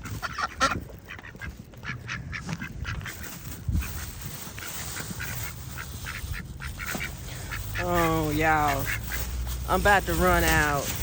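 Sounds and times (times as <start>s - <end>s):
ducks quacking: 0.0s - 11.0s
wind rumble on microphone: 0.0s - 11.0s.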